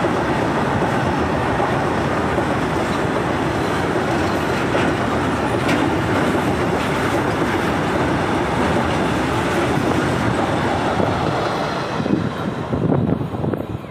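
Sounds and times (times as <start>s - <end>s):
freight train wheels rumbling: 0.0s - 13.9s.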